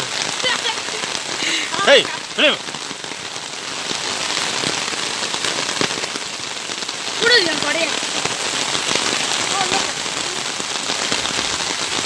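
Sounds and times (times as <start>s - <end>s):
hailstones ticking: 0.0s - 12.0s
rain on pavement: 0.0s - 12.0s.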